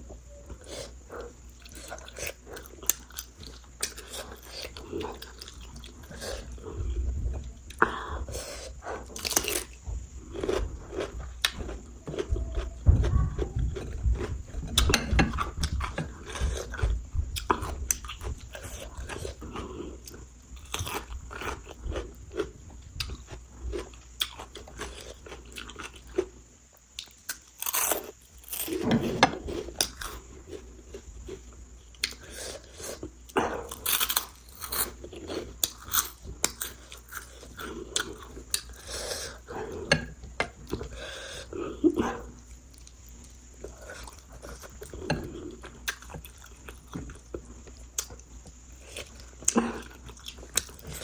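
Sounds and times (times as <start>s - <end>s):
chewing crunchy food: 0.4s - 51.0s.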